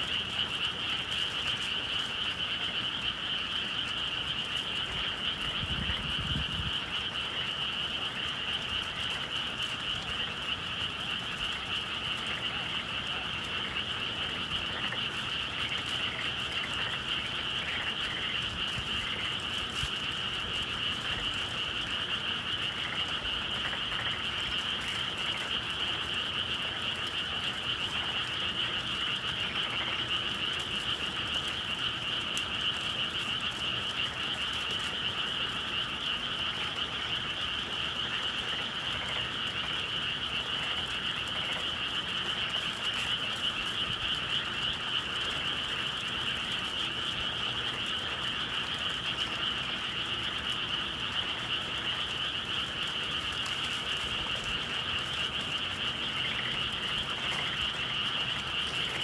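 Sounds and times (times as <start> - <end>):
frogs trilling in chorus: 0.0 - 59.0.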